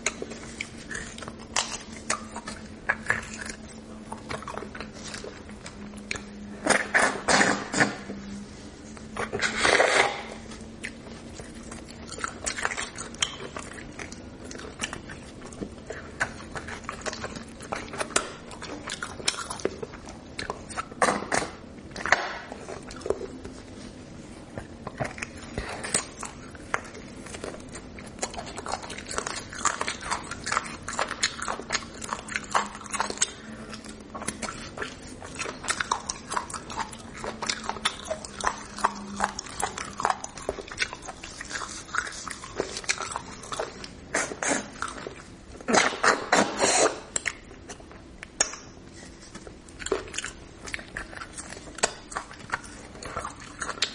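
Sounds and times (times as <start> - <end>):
faint steady hum: 0.0 - 53.9
wet chewing and sucking: 0.0 - 53.9.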